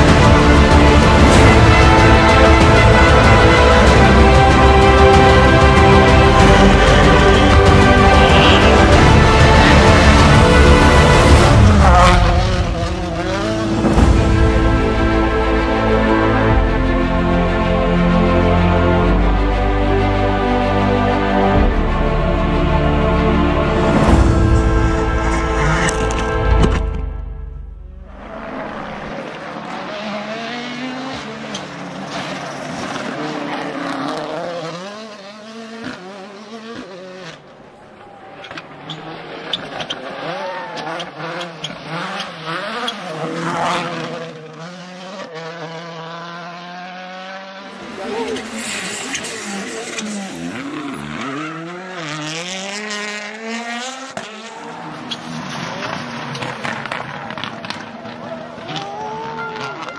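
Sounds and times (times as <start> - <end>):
rally car engine revving: 0.0 - 15.8, 23.8 - 59.9.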